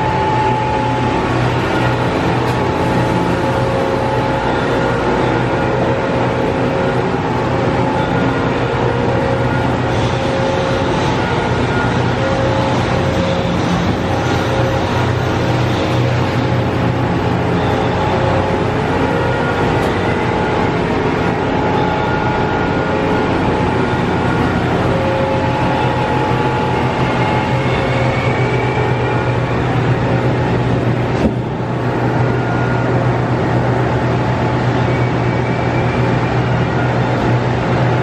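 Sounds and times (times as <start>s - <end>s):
machine mechanical hum: 0.0s - 38.0s
steady machine tones: 0.0s - 38.0s.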